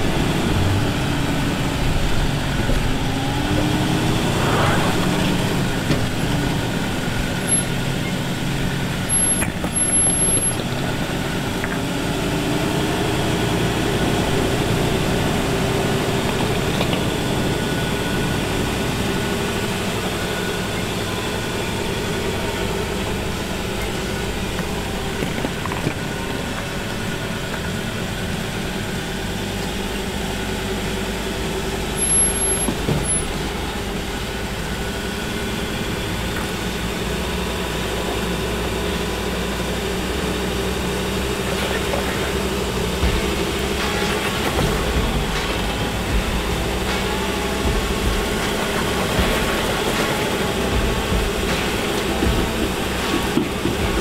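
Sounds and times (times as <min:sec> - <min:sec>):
truck engine pulling at low revs: 0:00.0 - 0:54.0.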